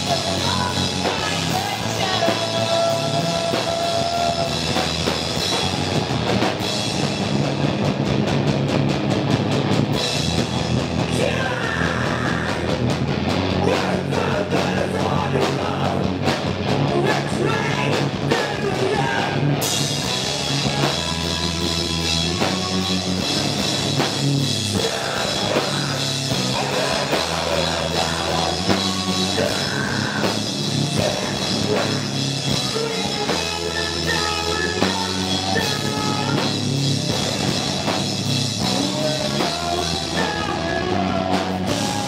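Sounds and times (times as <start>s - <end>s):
drum kit: 0.0s - 42.0s
electric guitars: 0.0s - 42.0s.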